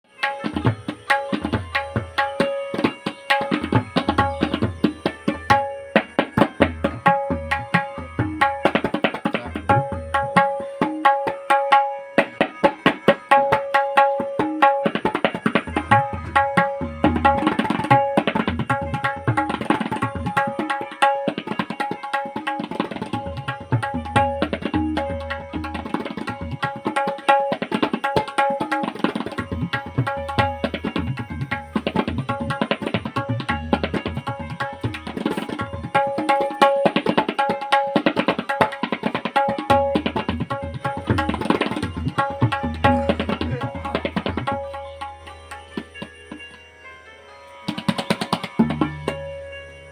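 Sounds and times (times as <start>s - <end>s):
tabla strokes: 0.0s - 46.6s, 47.6s - 49.9s.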